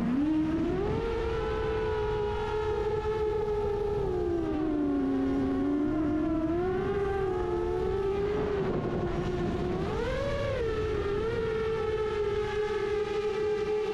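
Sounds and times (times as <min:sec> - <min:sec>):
quadcopter motors whining: 0:00.0 - 0:13.9.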